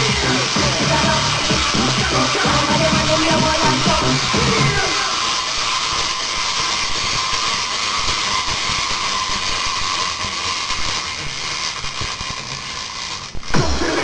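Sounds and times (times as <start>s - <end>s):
clockwork toy whirring: 0.0s - 14.0s.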